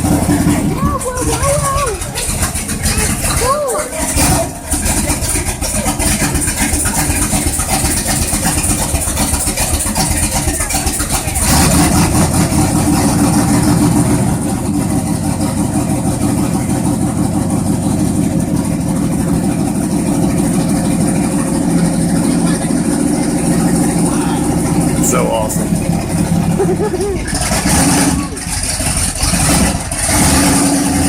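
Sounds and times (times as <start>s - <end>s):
monster truck engine revving: 0.0s - 31.0s.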